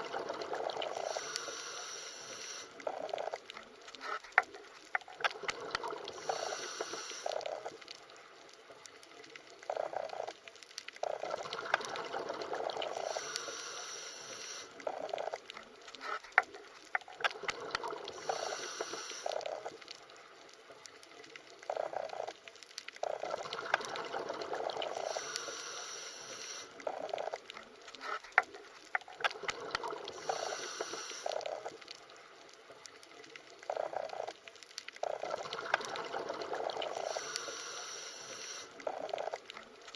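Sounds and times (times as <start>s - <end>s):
soft high hiss: 0.0s - 39.9s
underwater bubbling and gurgling: 0.0s - 39.9s.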